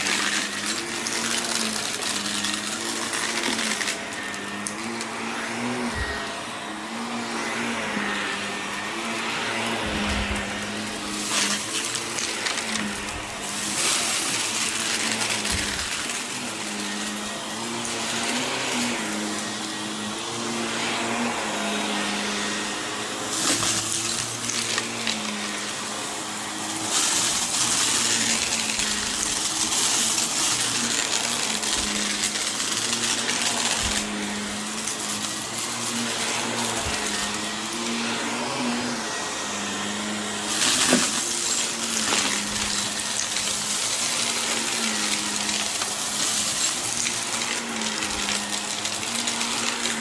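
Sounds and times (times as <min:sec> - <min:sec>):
vacuum cleaner running: 0:00.0 - 0:50.0.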